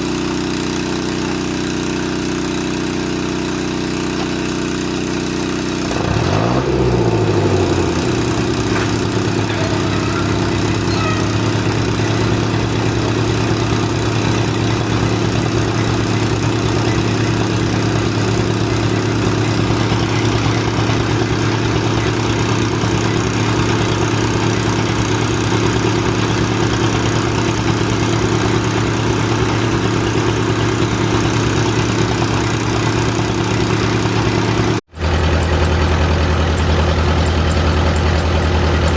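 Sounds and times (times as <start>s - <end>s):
drilling rig engine running: 0.0s - 38.9s.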